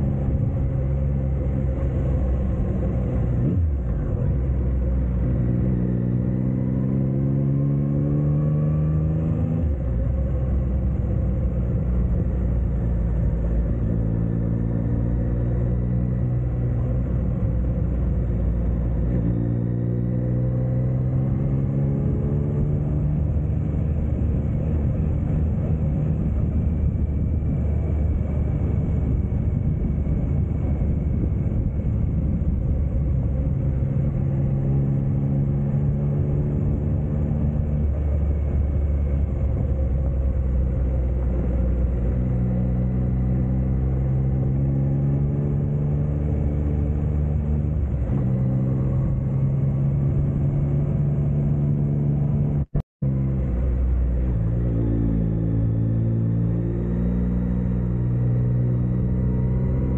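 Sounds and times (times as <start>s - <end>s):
wind rumble: 9.4s - 59.9s.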